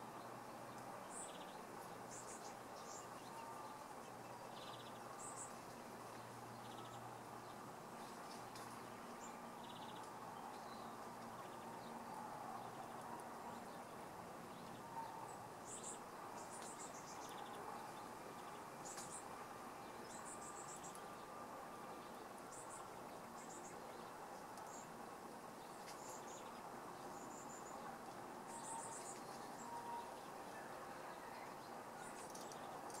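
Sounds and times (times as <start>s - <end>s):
steady low hiss: 0.0s - 33.0s.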